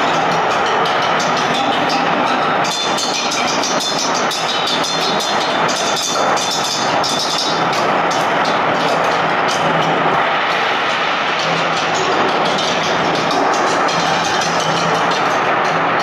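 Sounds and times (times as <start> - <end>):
sticks clattering on hanging rods: 0.0 - 10.0, 11.3 - 16.0
thin high ringing tone: 0.0 - 16.0.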